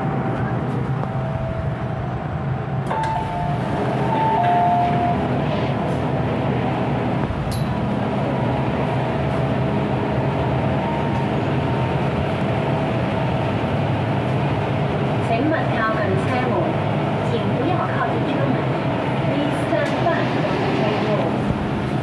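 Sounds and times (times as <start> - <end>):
electric train rumble: 0.0 - 22.0.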